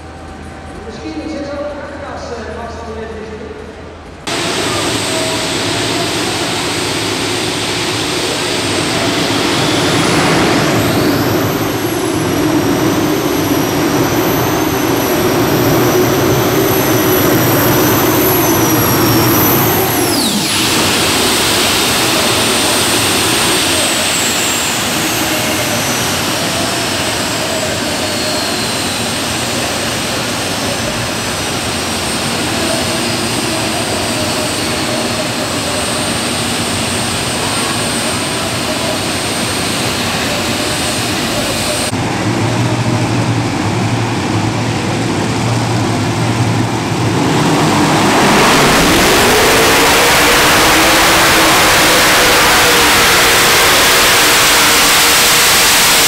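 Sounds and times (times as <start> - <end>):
heavy engine roar: 0.0 - 2.4, 3.4 - 56.0
high engine whine: 0.0 - 56.0.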